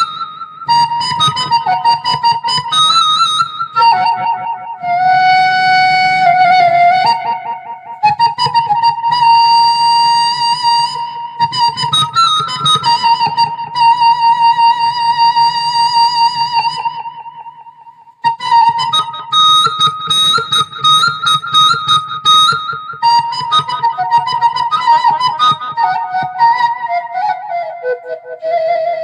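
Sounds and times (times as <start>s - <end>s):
bamboo flute melody: 0.0s - 29.0s.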